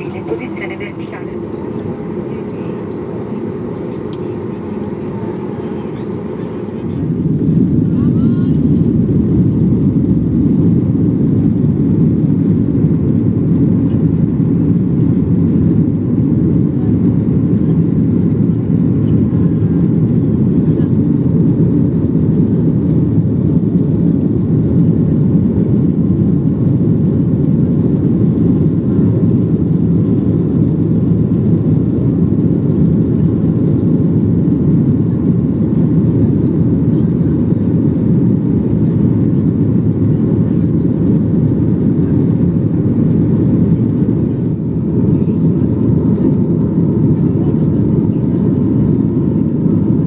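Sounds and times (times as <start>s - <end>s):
jet engine cabin rumble: 0.0s - 50.0s.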